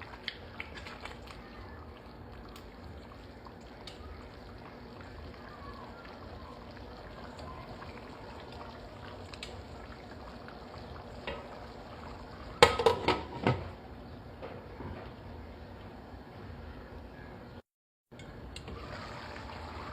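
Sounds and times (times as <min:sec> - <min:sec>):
covered pot simmering: 0:00.0 - 0:16.3, 0:18.2 - 0:19.9.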